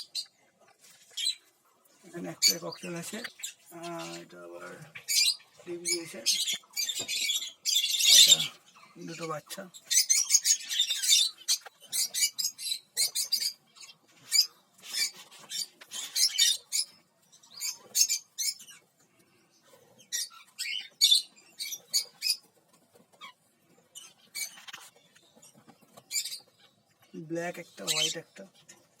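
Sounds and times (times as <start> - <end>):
small parrots chirping and screeching: 0.0 - 29.0.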